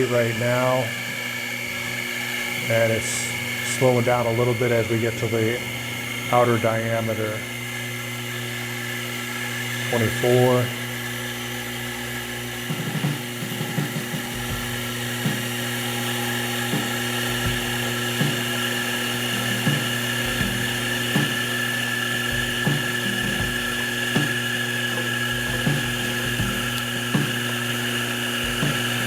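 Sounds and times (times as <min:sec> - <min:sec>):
lathe spindle whine: 0:00.0 - 0:29.0.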